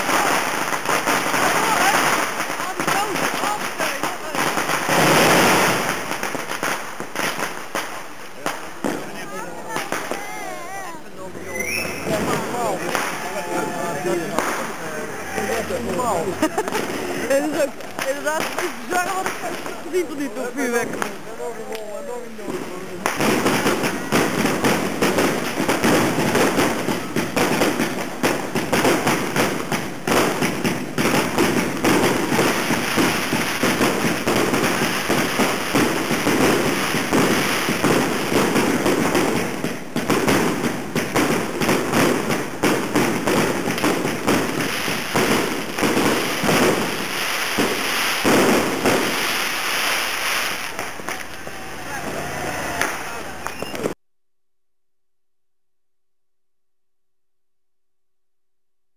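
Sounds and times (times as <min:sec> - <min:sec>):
firecrackers crackling: 0:00.0 - 0:54.0.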